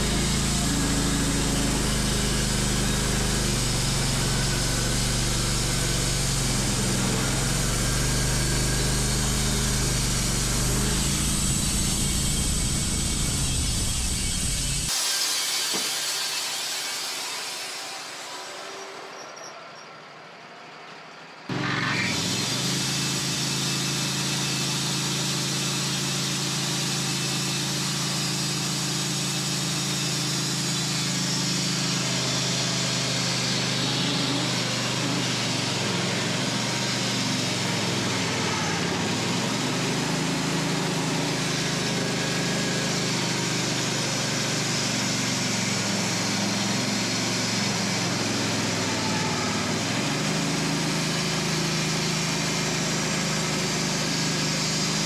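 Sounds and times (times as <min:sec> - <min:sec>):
band sawmill cutting log: 0:00.0 - 0:19.2, 0:21.5 - 0:55.0.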